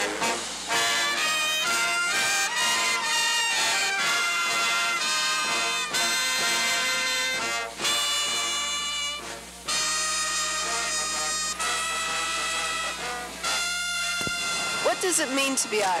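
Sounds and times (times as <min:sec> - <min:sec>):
marching brass band playing: 0:00.0 - 0:16.0.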